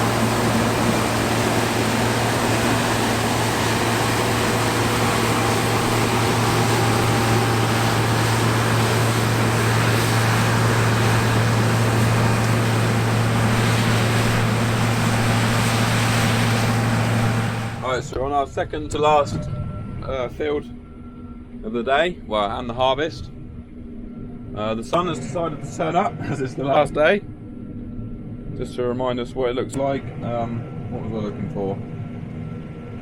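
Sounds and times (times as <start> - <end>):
combine harvester engine drone: 0.0 - 33.0.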